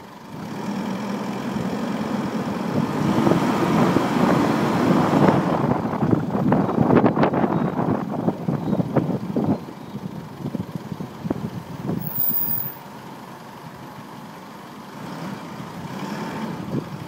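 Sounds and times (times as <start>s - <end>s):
road rumble: 0.0s - 17.0s.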